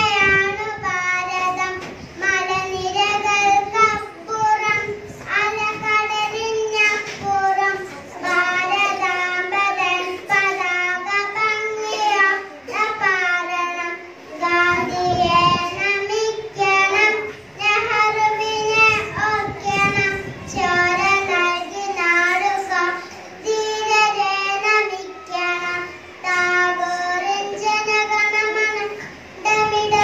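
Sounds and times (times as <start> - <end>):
girl singing into microphone: 0.0 - 30.0.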